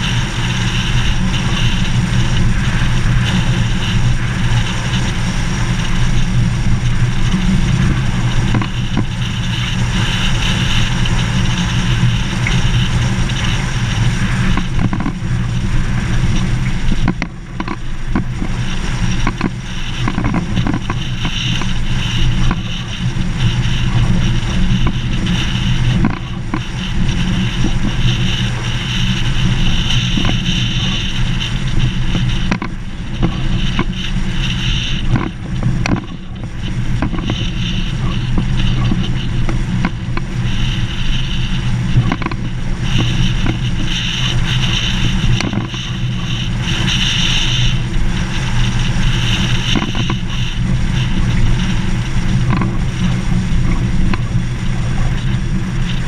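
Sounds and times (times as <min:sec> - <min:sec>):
vehicle engine and tyre rumble: 0:00.0 - 0:56.0.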